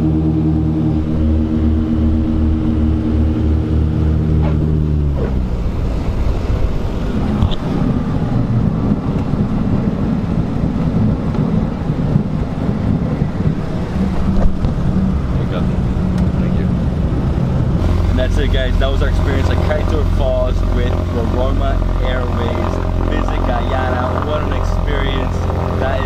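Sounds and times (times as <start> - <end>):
propeller plane engine drone: 0.0 - 26.0
rough rumbling on runway: 0.0 - 26.0.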